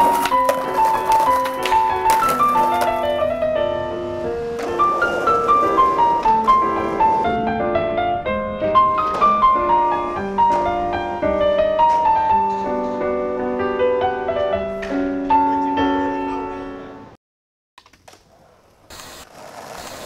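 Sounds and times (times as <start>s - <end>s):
solo piano music: 0.0s - 17.2s.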